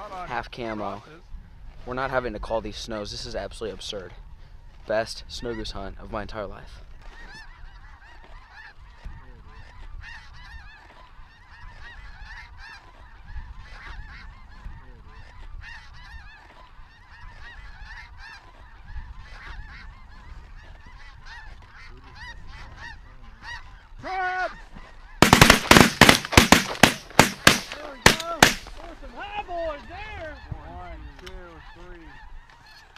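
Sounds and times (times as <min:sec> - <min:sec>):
geese honking: 0:04.4 - 0:06.0, 0:06.6 - 0:32.9.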